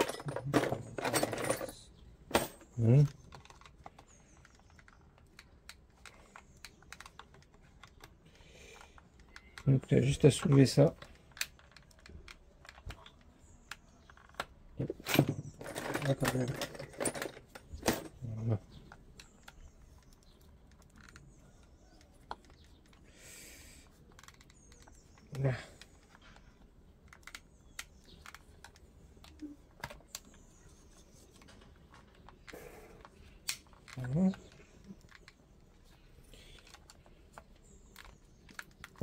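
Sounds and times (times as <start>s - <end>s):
small plastic parts clicking: 2.4s - 23.2s, 23.8s - 39.0s.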